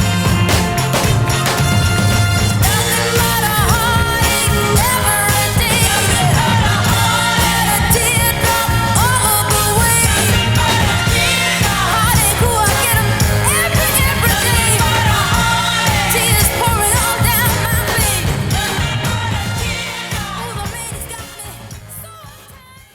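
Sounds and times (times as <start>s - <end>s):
band with steady beat: 0.0s - 22.9s
women singing soul song: 0.0s - 22.9s.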